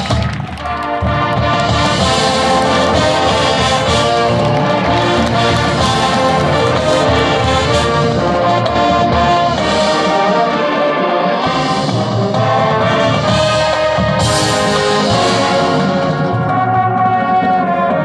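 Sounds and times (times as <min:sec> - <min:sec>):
brass section playing held chords: 0:00.0 - 0:18.0.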